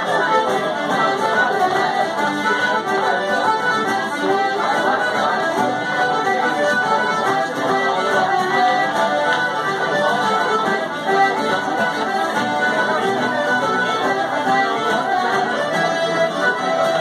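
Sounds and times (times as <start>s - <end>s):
traditional dance music: 0.0s - 17.0s.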